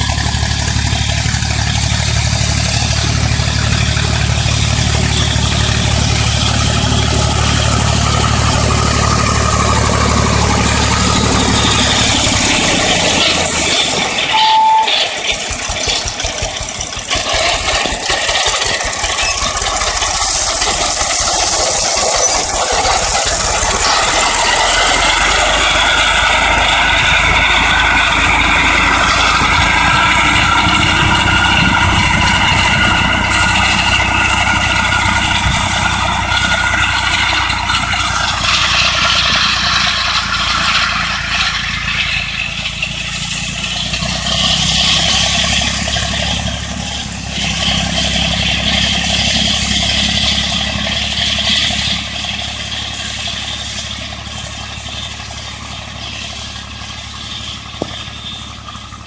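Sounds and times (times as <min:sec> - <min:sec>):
mower rattling clatter: 0:00.0 - 0:59.0
rotary mower spinning and cutting: 0:00.0 - 0:59.0
tractor diesel engine running: 0:00.0 - 0:59.0.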